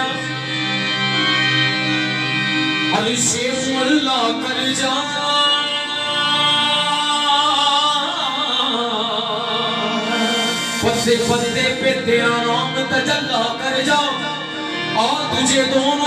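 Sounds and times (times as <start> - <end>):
man singing ornamented notes: 0.0 - 1.0, 2.9 - 16.0
instrumental accompaniment: 0.0 - 16.0.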